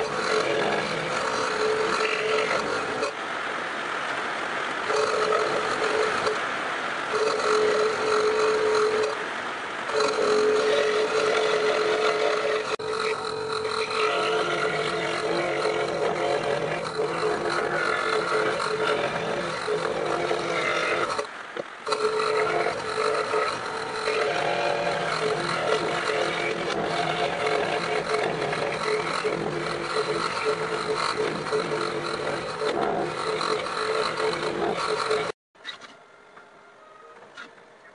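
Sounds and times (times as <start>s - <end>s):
power tool cutting wood: 0.0s - 3.2s, 4.8s - 6.4s, 7.1s - 9.2s, 9.9s - 21.3s, 21.9s - 35.4s.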